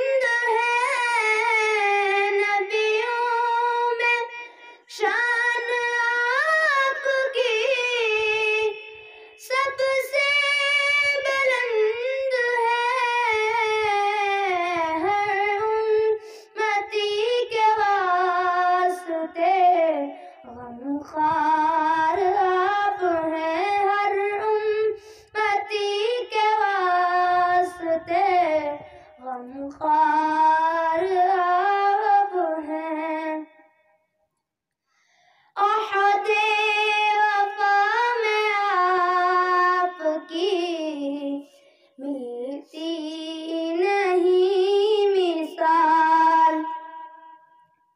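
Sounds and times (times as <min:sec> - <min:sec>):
boy singing into a microphone: 0:00.0 - 0:33.6, 0:35.6 - 0:47.2.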